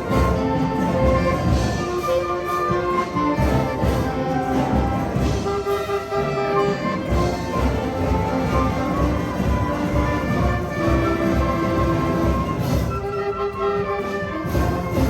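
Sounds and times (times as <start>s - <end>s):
brass and woodwinds sustained notes: 0.0s - 15.0s
steady drum beat: 0.0s - 15.0s.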